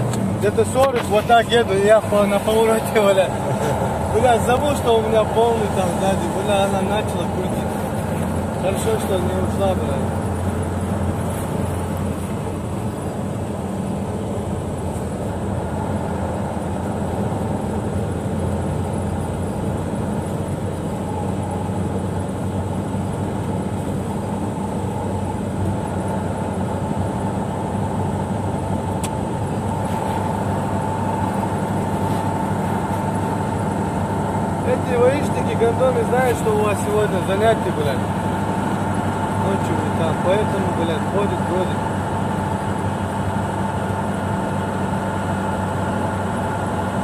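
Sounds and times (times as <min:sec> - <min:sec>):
car engine humming: 0:00.0 - 0:47.0
tyre and road noise: 0:00.0 - 0:47.0.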